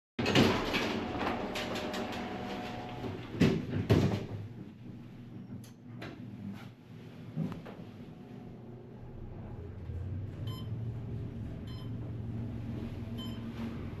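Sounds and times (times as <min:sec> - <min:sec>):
elevator doors sliding: 0:00.2 - 0:03.4, 0:04.2 - 0:14.0.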